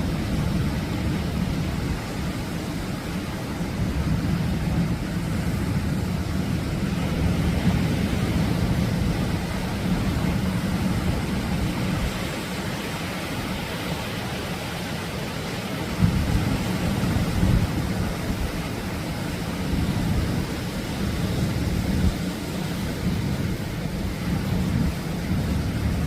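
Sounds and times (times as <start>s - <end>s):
surf waves washing in: 0.0s - 26.0s.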